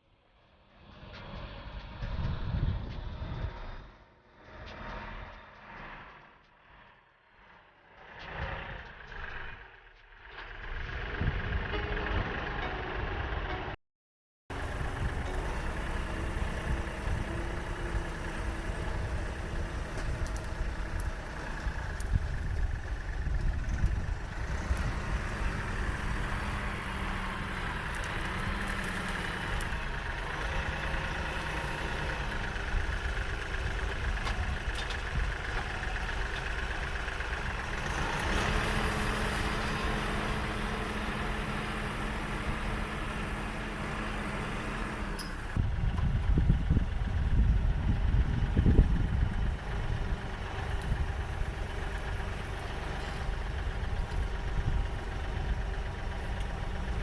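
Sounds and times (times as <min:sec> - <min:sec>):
diesel tractor engine running: 0:07.5 - 0:13.8, 0:14.5 - 0:57.0.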